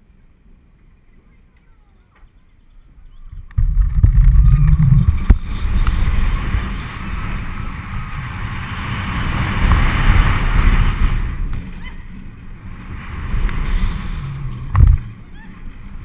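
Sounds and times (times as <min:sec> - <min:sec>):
roller coaster wheels rumbling: 0:00.0 - 0:16.0
wind buffeting microphone: 0:02.9 - 0:16.0.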